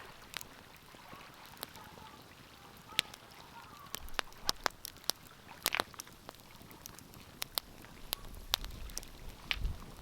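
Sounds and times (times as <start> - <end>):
faint steady hiss: 0.0 - 10.0
wood fire crackling: 0.0 - 10.0.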